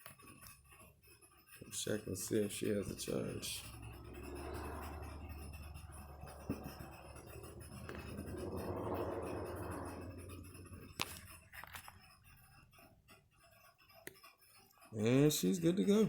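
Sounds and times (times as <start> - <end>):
scraping and rubbing on laptop: 0.0 - 16.0.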